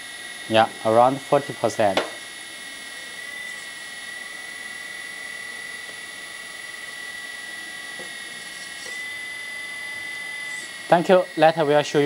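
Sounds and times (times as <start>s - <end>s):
hydraulic pump whine: 0.0s - 12.0s.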